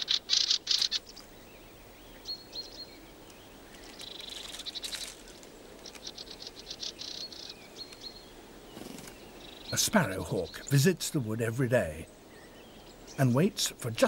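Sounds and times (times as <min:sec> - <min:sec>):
bird trill and ticking calls: 0:00.0 - 0:14.0
songbirds chattering: 0:00.0 - 0:14.0.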